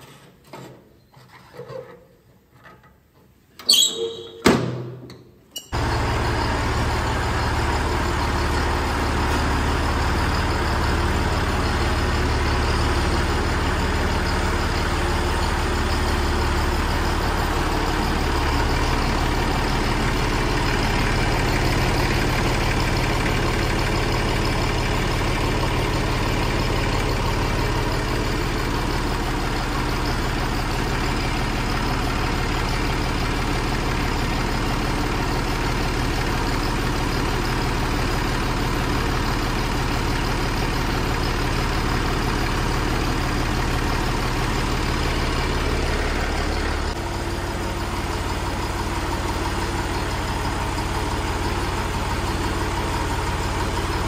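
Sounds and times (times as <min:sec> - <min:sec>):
engine idling: 0:05.7 - 0:54.0.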